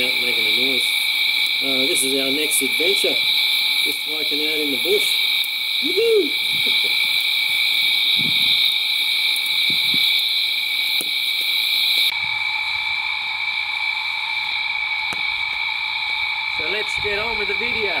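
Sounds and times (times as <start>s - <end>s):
insects droning high-pitched: 0.0s - 18.0s
lower insect drone: 0.0s - 18.0s.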